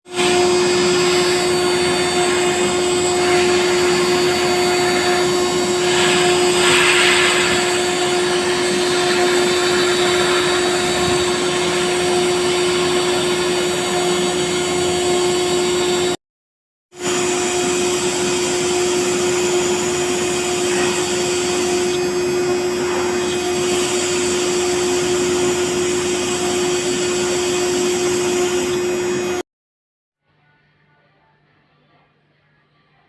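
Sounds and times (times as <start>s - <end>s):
cnc router spindle cutting: 0.1s - 16.2s, 17.0s - 29.4s.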